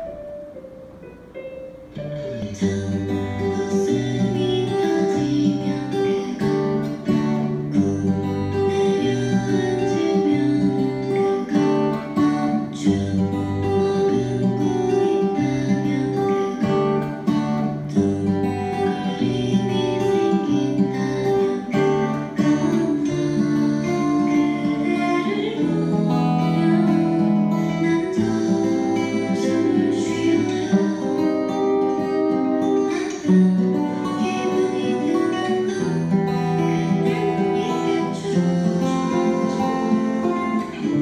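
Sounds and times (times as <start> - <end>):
fingerstyle acoustic guitar arpeggios: 0.0 - 41.0.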